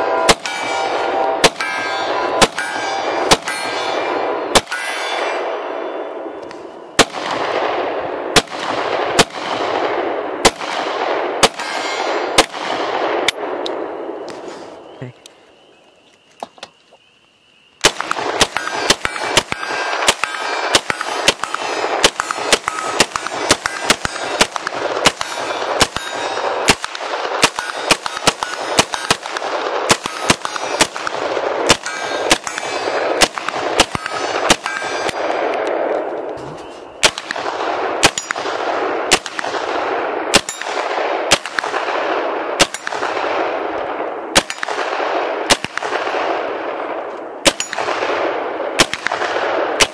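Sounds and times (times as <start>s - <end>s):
rifle gunshots with echo: 0.0s - 14.3s, 17.8s - 49.9s.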